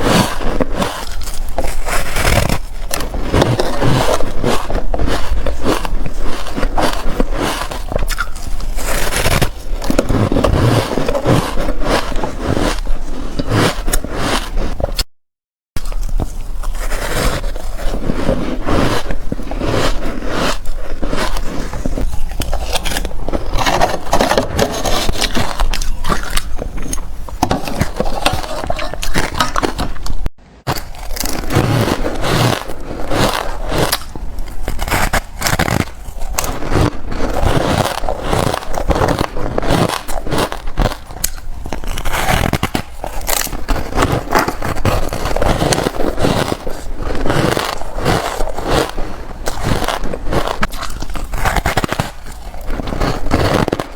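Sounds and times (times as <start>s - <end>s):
chewing crunchy ice: 0.0s - 15.1s, 15.8s - 53.9s.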